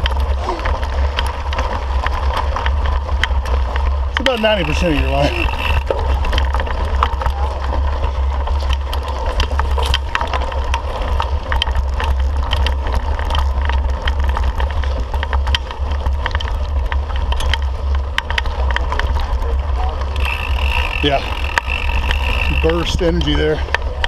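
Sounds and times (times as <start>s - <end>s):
mountain bike clattering: 0.0s - 24.0s.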